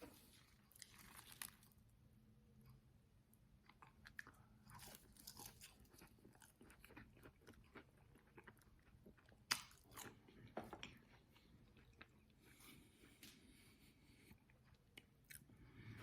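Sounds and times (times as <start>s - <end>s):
chewing crispy chicken: 0.0s - 1.8s, 3.6s - 16.0s.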